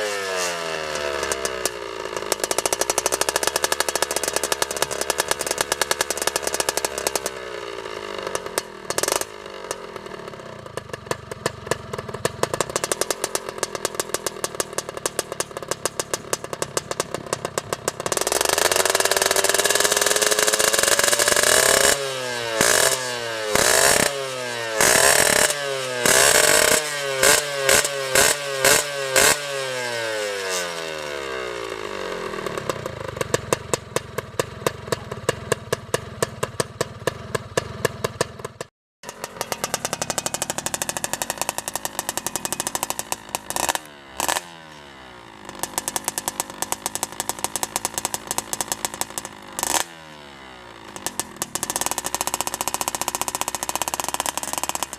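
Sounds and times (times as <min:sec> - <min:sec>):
engine popping crackling idle: 0:00.0 - 0:54.9
motorcycle engine revving: 0:00.0 - 0:54.9.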